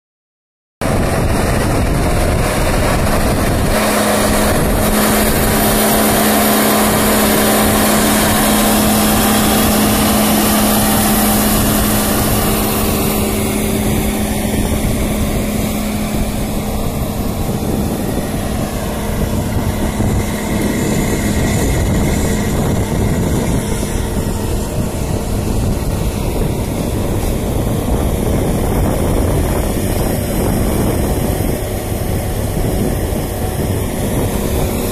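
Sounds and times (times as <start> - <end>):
tractor diesel engine under load: 0.8 - 34.9.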